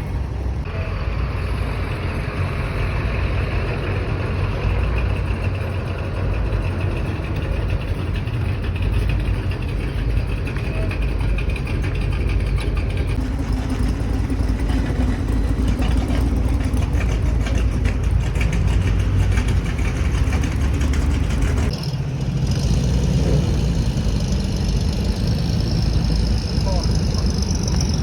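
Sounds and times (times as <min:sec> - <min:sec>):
car engines running low: 0:00.0 - 0:28.0.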